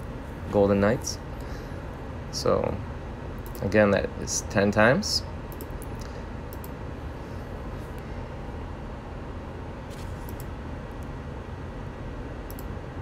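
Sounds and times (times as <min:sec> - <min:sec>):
low room noise rumble: 0:00.0 - 0:13.0.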